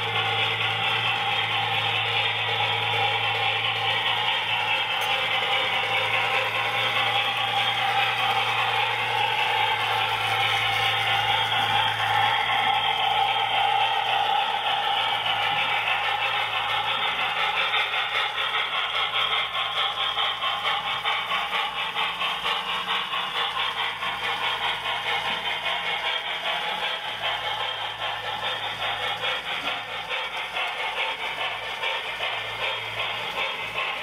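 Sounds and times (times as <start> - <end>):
model train wheels clattering: 0.0 - 34.0.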